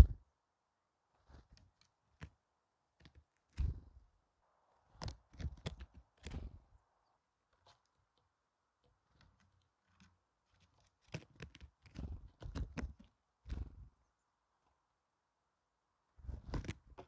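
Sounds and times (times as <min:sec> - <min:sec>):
bird pecking at grain: 0:01.1 - 0:14.8, 0:16.1 - 0:17.0.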